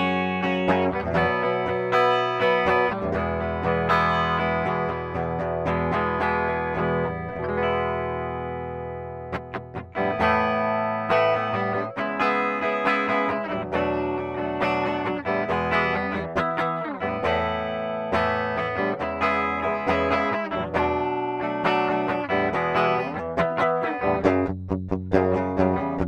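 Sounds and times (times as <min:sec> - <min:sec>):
clean electric guitar: 0:00.0 - 0:26.0.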